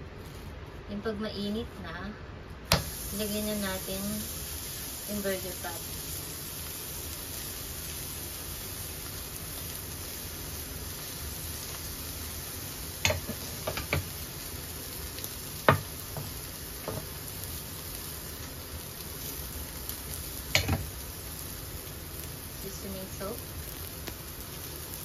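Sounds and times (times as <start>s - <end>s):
burger patty sizzling in skillet: 2.7s - 25.0s.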